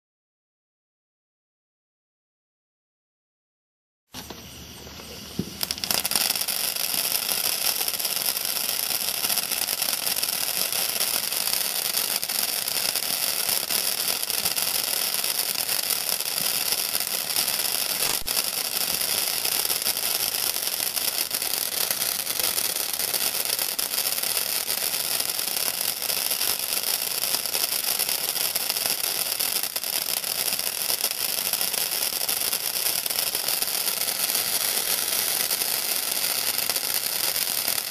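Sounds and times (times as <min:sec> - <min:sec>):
firework fountain crackling hiss: 0:04.2 - 0:37.9.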